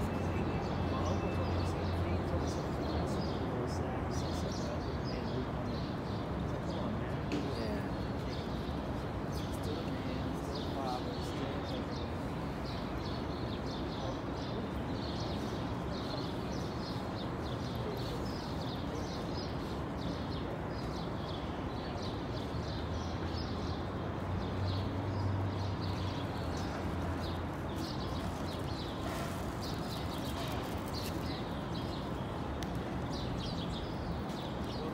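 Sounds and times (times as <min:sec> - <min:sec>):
city background noise: 0:00.0 - 0:34.9
small birds chirping: 0:00.0 - 0:34.9.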